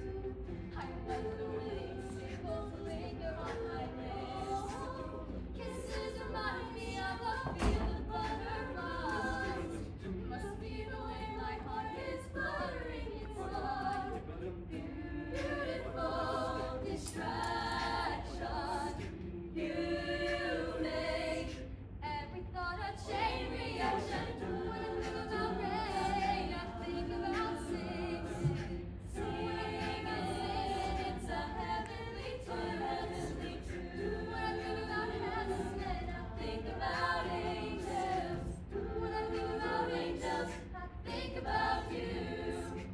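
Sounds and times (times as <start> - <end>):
choir singing a cappella: 0.0 - 42.9
steady low hum: 0.0 - 42.9.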